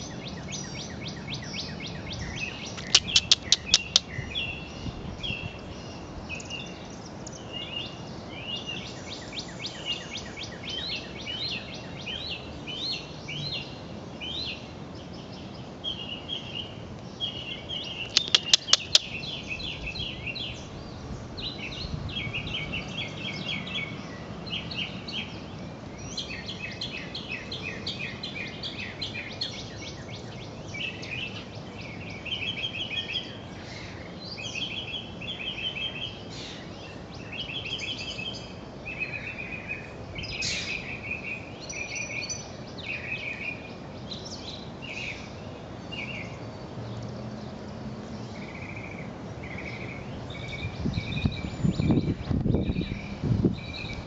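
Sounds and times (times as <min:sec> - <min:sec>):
faint outdoor background noise: 0:00.0 - 0:54.0
songbirds singing and chirping: 0:00.0 - 0:54.0.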